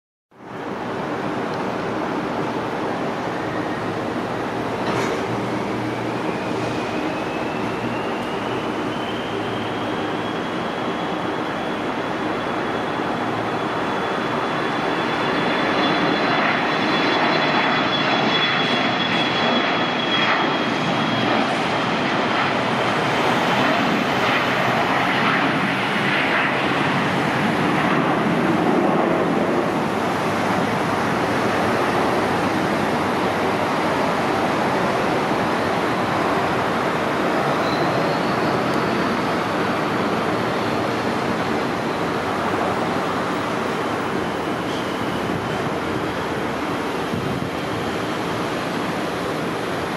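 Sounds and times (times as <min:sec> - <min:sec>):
high turbine whine: 0:00.4 - 0:49.9
jet engine roar: 0:00.4 - 0:49.9.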